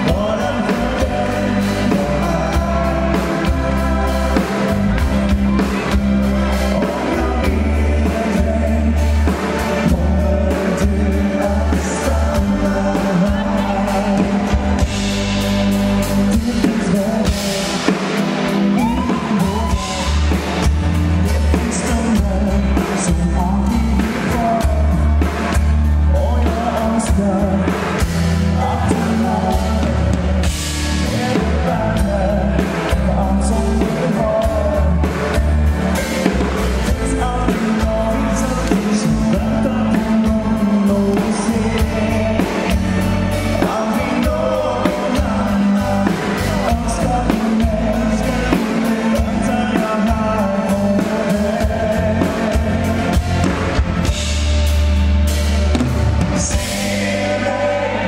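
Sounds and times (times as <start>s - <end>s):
man singing: 0.0s - 54.4s, 55.7s - 58.0s
live pop band playing: 0.0s - 58.0s.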